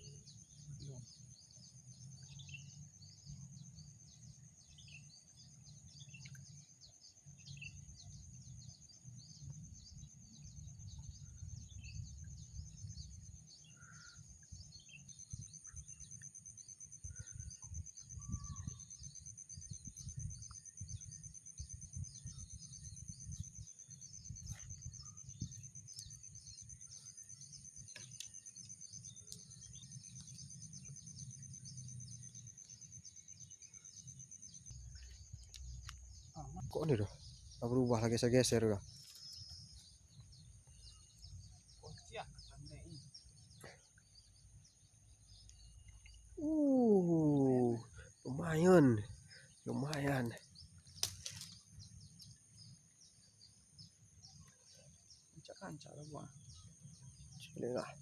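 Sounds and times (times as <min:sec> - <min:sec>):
bird chirps: 0:00.0 - 0:58.0
insects trilling: 0:00.0 - 0:58.0.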